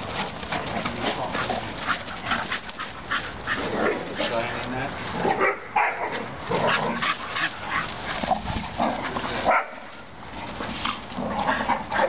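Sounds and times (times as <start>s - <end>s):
dogs barking and yipping: 0.0s - 4.4s, 5.2s - 12.0s.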